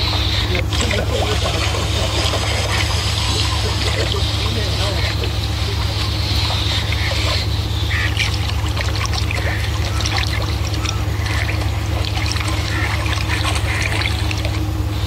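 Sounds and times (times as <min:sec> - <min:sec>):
boat engine drone: 0:00.0 - 0:15.0
water sloshing along hull: 0:00.0 - 0:15.0.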